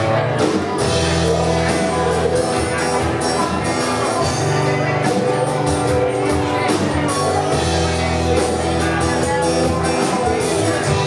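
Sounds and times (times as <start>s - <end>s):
electric and acoustic guitars: 0.0s - 11.0s
keyboard: 0.0s - 11.0s
person singing: 0.0s - 11.0s.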